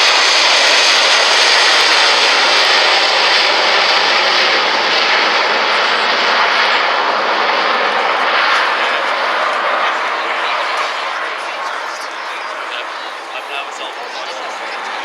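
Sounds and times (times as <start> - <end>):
plane flying past: 0.0 - 15.0.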